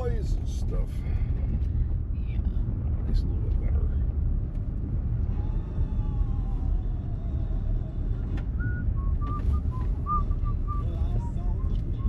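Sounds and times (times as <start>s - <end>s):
vehicle driving on dirt road: 0.0s - 12.0s.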